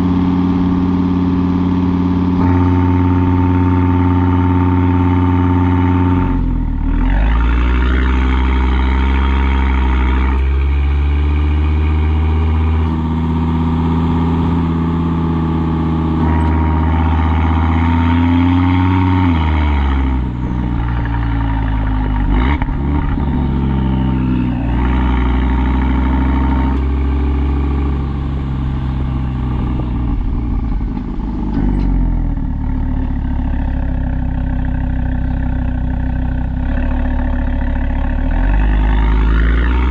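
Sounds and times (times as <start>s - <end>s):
car engine revving through exhaust: 0.0s - 39.9s.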